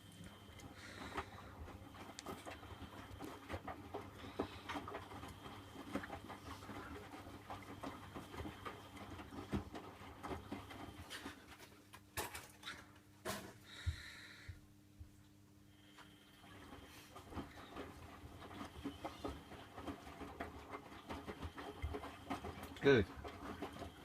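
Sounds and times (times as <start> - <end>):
washing machine low hum: 0.0 - 24.0.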